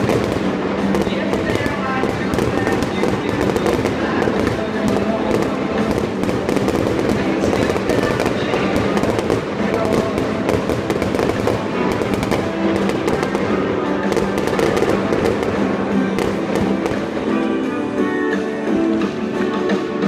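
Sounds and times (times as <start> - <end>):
fireworks bursting and crackling: 0.0 - 19.2
music: 0.0 - 20.0.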